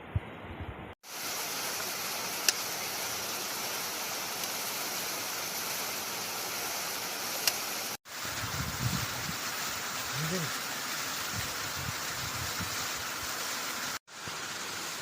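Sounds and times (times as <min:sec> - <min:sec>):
running water rushing: 0:01.0 - 0:15.0.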